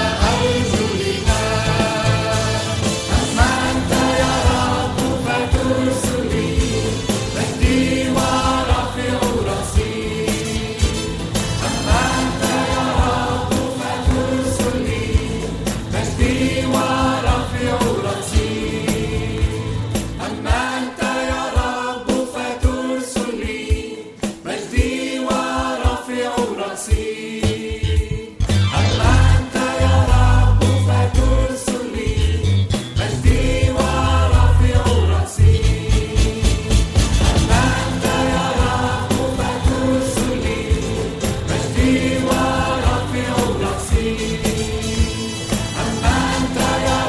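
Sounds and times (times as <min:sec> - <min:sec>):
backing music with drum beat: 0:00.0 - 0:47.0
choir singing a hymn: 0:00.0 - 0:47.0.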